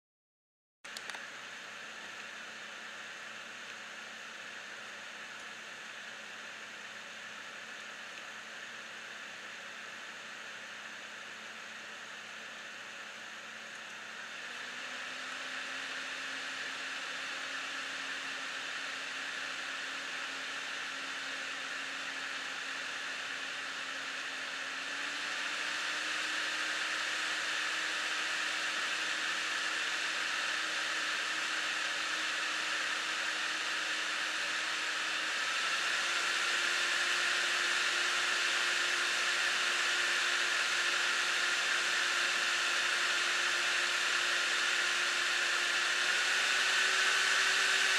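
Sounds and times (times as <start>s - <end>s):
cooling fan whirring: 0.9s - 47.9s.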